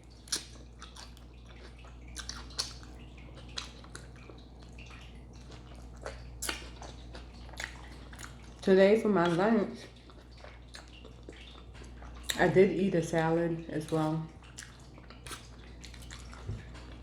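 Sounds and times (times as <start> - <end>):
chewing salad: 0.0 - 17.0.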